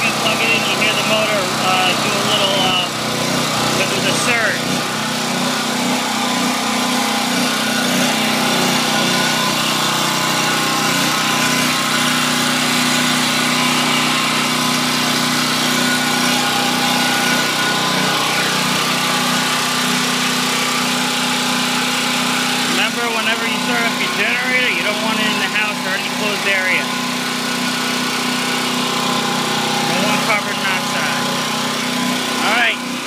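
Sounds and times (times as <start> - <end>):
generator engine running: 0.0 - 33.0.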